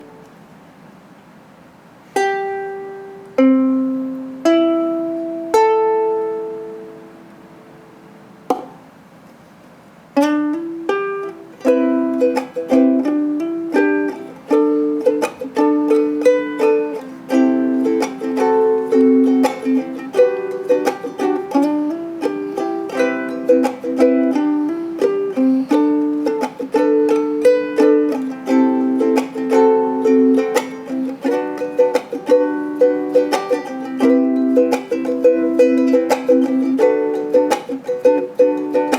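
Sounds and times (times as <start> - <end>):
plucked string instrument chords: 0.0 - 0.3, 2.2 - 8.9, 10.2 - 38.9
fingerpicked melody: 0.0 - 0.5, 2.1 - 8.9, 10.2 - 38.9.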